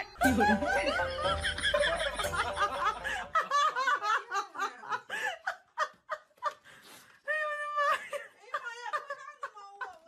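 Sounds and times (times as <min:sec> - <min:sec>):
people laughing: 0:00.0 - 0:06.7, 0:07.5 - 0:10.0.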